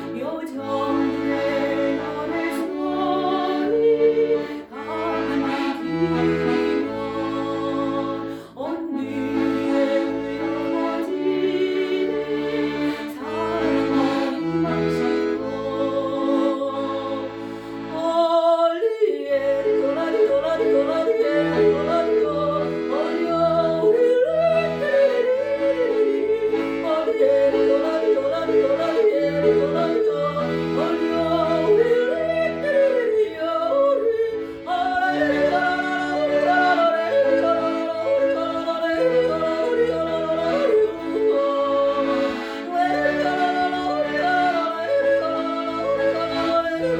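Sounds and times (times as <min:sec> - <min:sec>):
instrumental backing track: 0:00.9 - 0:18.0, 0:19.7 - 0:46.9.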